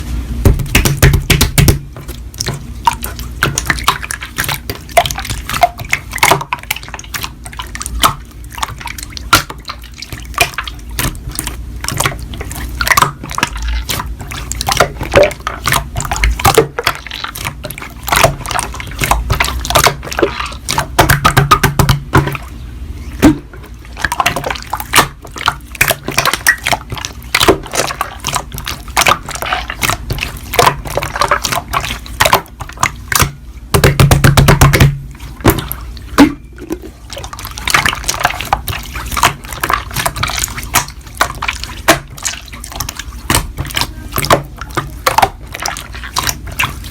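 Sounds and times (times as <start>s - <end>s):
slime squelching by hand: 0.4s - 46.9s.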